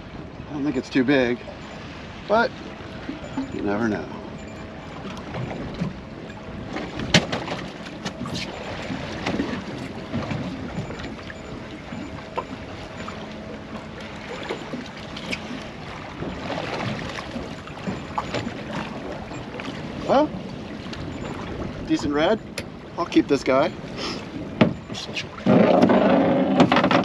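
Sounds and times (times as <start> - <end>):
wind buffeting microphone: 1.3 - 27.0
water slapping against boat hull: 4.9 - 27.0.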